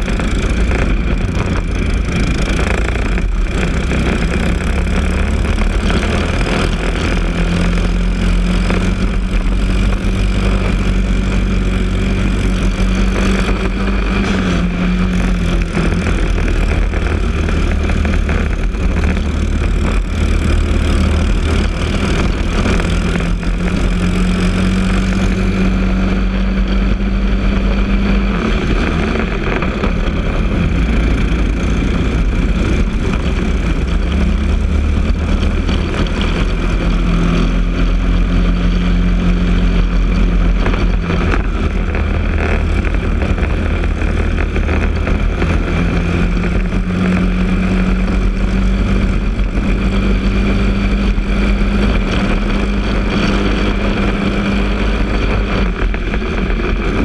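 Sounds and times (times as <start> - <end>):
kart engine at full throttle: 0.0 - 57.0.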